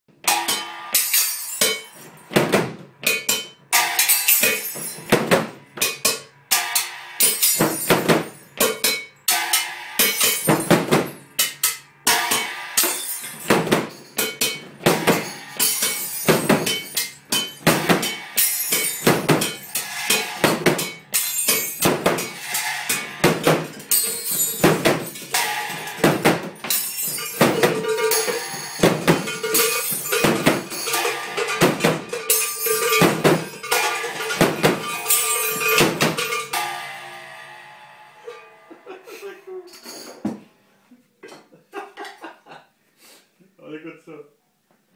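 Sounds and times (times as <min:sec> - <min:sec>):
percussion objects clattering: 0:00.2 - 0:38.8, 0:39.7 - 0:40.5.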